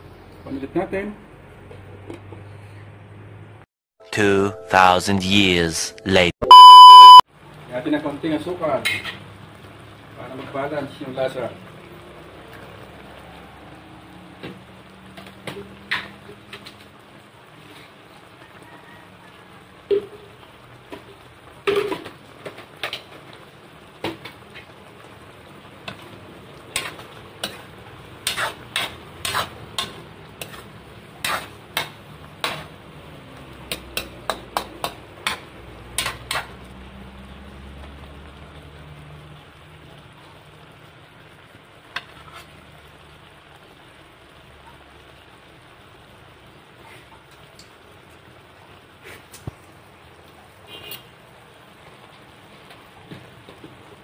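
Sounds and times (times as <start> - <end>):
stew bubbling and sizzling: 6.5 - 54.0.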